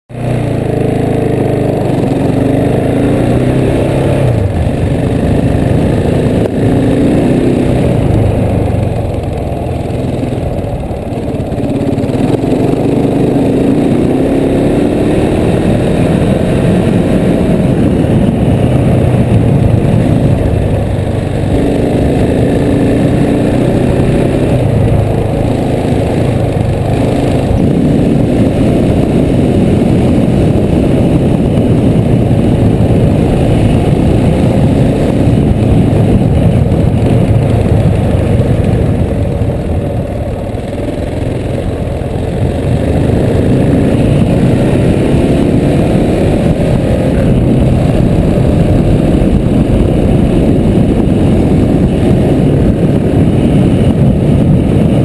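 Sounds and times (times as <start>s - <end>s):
motorcycle engine accelerating: 0.1s - 55.0s.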